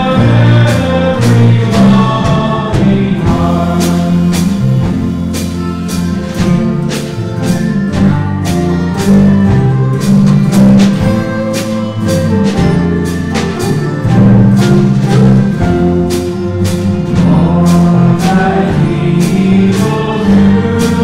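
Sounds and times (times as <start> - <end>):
band playing sustained chords: 0.0 - 21.0
drums keeping a steady beat: 0.0 - 21.0.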